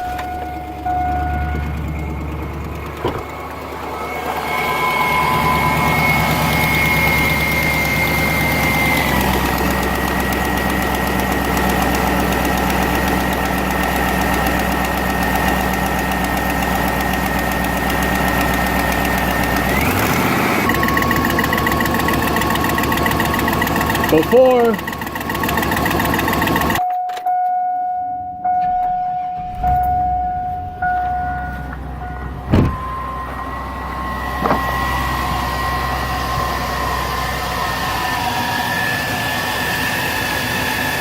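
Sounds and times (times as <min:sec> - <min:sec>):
truck engine idling: 0:00.0 - 0:26.8, 0:28.9 - 0:41.0.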